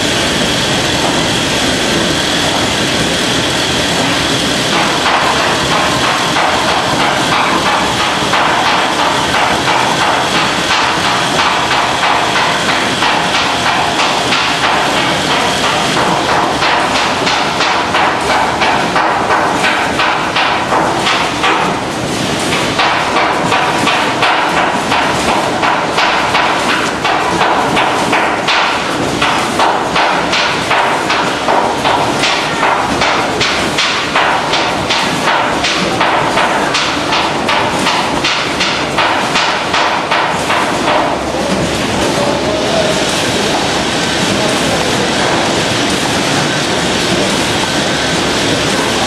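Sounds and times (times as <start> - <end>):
machinery clattering: 0.0 - 49.0
steady machine hum: 0.0 - 49.0.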